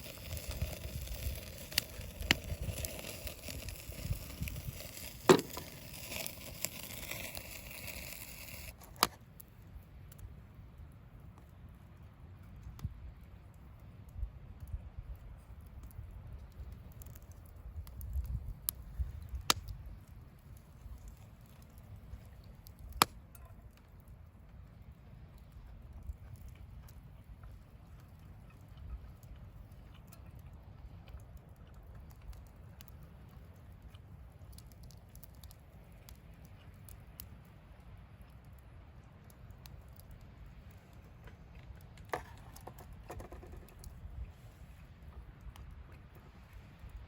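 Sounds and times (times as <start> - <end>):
sharp pops from burning wood: 0.0 - 10.3, 14.1 - 24.2, 25.4 - 44.3
wood bonfire crackling: 0.0 - 47.0.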